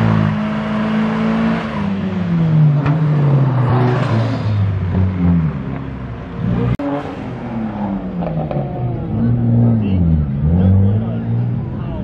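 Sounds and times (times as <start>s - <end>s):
car engine at high revs: 0.0s - 11.7s.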